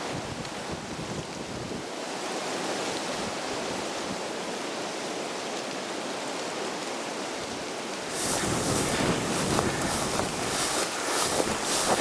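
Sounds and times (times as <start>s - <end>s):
wind through leaves and grass: 0.0s - 12.0s.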